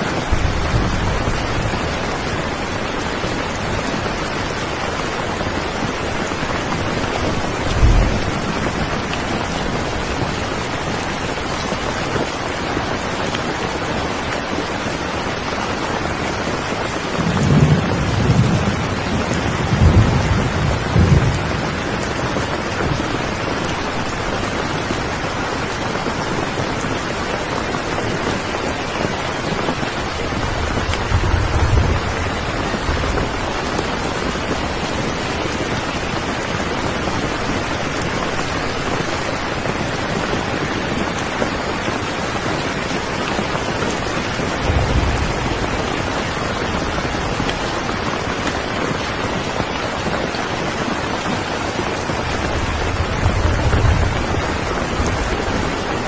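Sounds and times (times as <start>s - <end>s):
low thunder rumbles: 0.0s - 11.8s, 17.1s - 27.0s, 28.7s - 41.6s, 42.4s - 49.8s, 51.2s - 56.0s
heavy rain: 0.0s - 56.0s.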